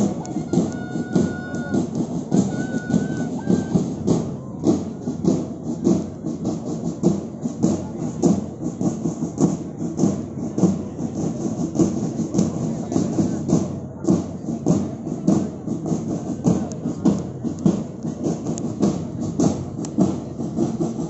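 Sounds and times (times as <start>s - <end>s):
march music with drum beat: 0.0s - 21.0s.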